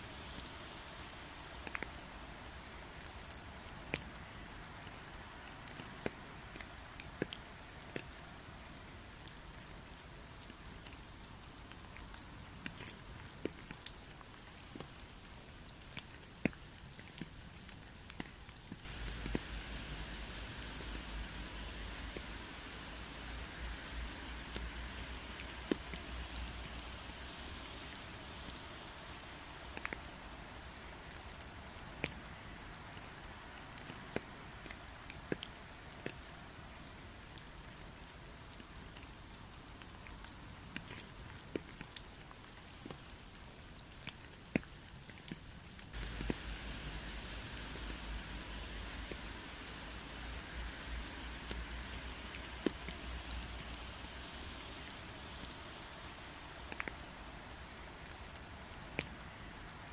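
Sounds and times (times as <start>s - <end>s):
raindrops striking close by: 0.0s - 59.9s
steady rain falling: 0.0s - 59.9s.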